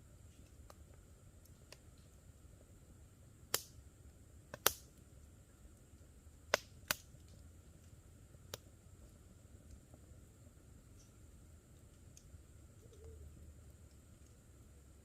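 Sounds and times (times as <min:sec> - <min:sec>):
campfire crackling and popping: 0:00.0 - 0:15.0
faint steady hiss: 0:00.0 - 0:15.0.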